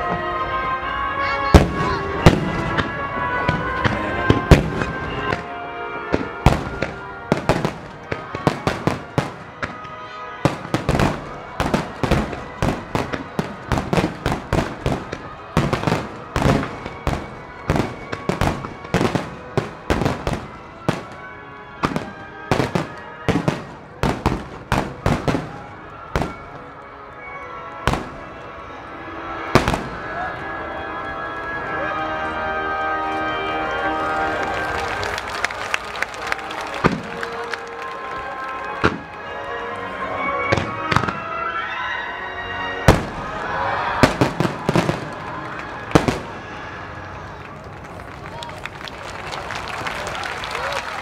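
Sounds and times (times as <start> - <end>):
fireworks bangs and crackles: 0.0 - 26.9, 27.8 - 28.5, 29.4 - 30.6, 33.8 - 39.4, 40.2 - 41.4, 42.8 - 48.5
music: 0.0 - 51.0.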